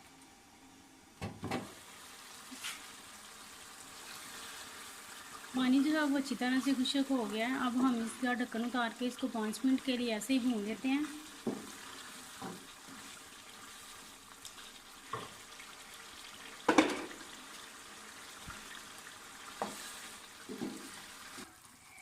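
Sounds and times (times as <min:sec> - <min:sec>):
curry sizzling in a pan: 0:01.6 - 0:22.0.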